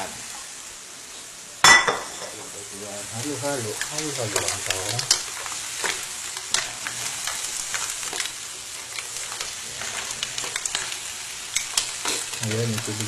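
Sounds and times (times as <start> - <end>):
mussels crackling and hissing in pan: 0.0 - 13.0.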